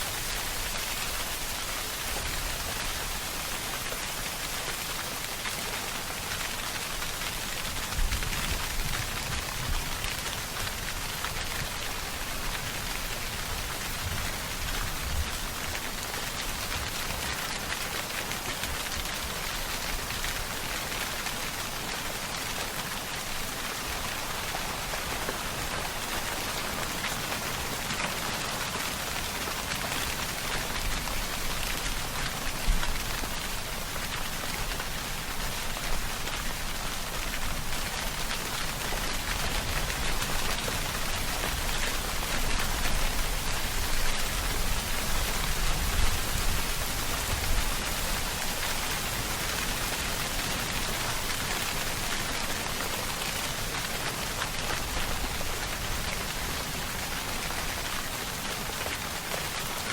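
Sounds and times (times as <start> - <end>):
loud spatters of rain: 0.0 - 59.9
rain pattering: 0.0 - 59.9.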